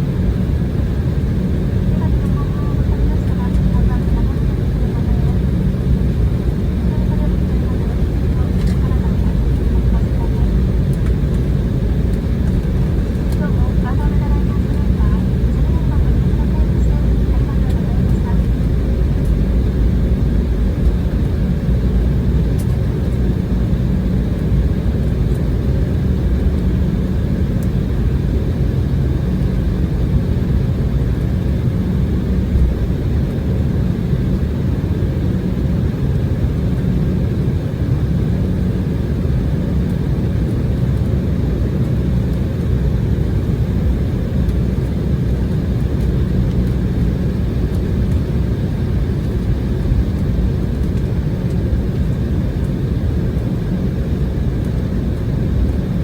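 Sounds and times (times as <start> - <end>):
jet engine and airflow rumble: 0.0 - 56.0.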